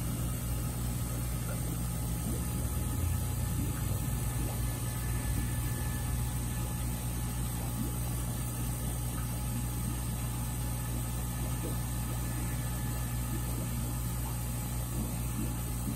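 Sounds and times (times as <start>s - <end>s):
low machine hum: 0.0s - 15.9s.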